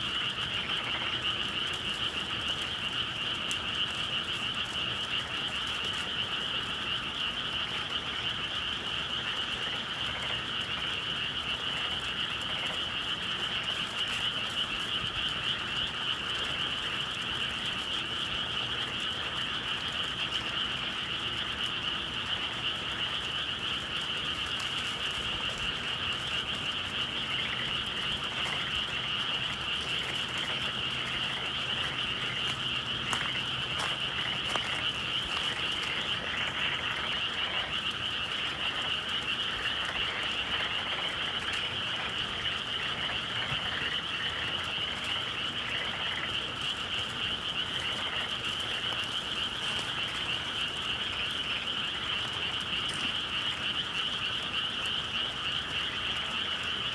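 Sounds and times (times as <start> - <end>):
chorus of frogs calling: 0.0 - 56.9.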